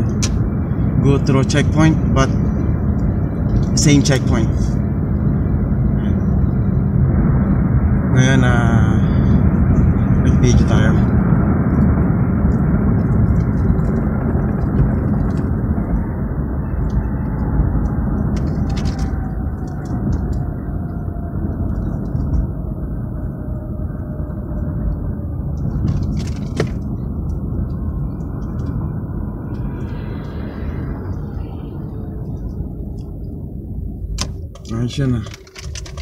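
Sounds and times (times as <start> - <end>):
faint whine falling in pitch: 0.0 - 35.0
car road noise rumble: 0.0 - 36.0.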